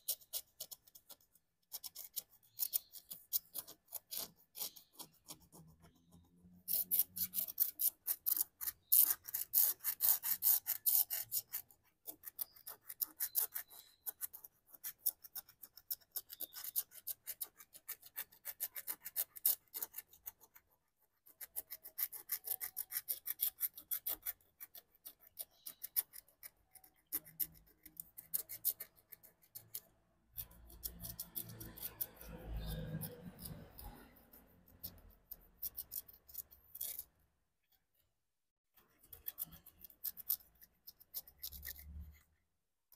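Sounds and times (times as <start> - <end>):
stylus scratching a card: 0.0 - 37.2, 38.8 - 42.3.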